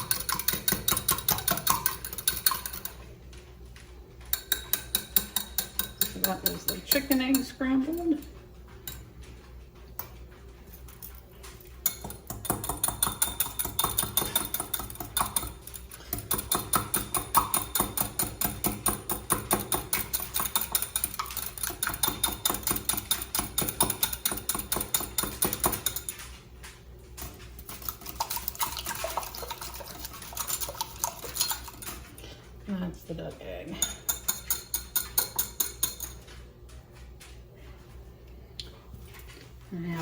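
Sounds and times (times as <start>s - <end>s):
utensil clinking against bowl: 0.0s - 3.1s, 4.2s - 32.4s, 33.3s - 36.4s.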